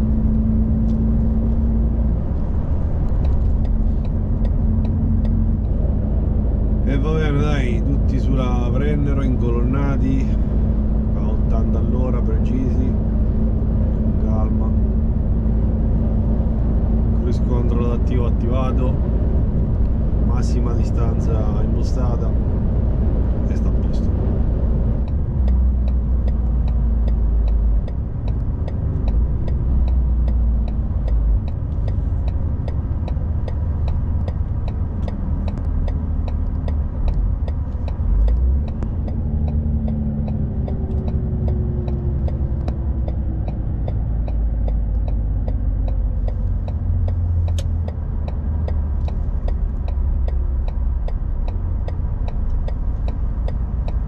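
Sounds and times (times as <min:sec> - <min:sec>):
truck engine and road rumble: 0:00.0 - 0:54.0
faint regular ticking: 0:00.2 - 0:54.0.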